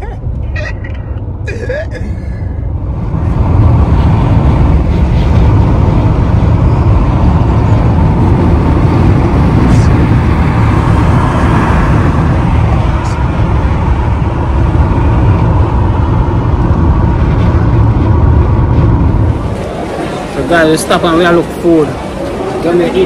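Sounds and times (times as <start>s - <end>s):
car road and wind noise: 0.0s - 23.0s.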